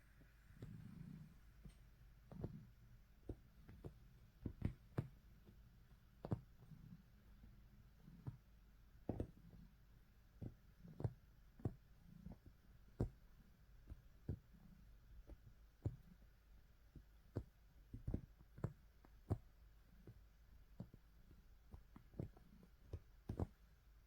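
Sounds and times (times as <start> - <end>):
cat kneading on bedding: 0.1 - 24.0.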